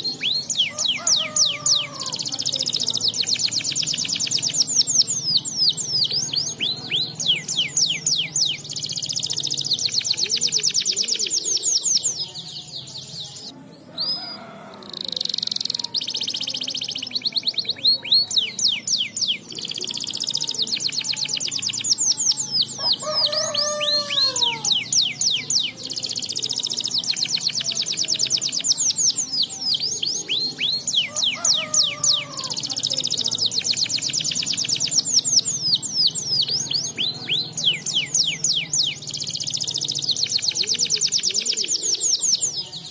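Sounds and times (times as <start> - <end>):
canary trilling: 0.0 - 42.9.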